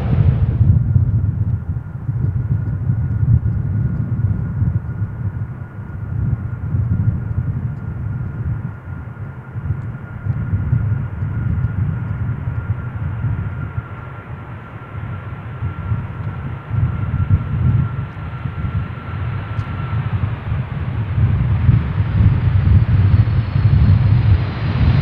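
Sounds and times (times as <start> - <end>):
jet engine high whine: 0.0 - 25.0
jet engine low rumble: 0.0 - 25.0.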